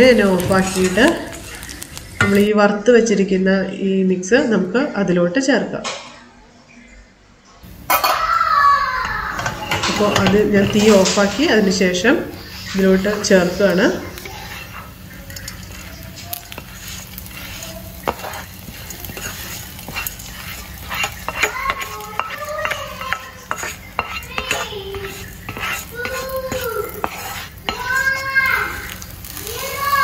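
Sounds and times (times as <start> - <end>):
spatula scraping frying pan: 0.0 - 2.5, 7.6 - 30.0
light sizzle: 0.0 - 2.6, 7.6 - 30.0.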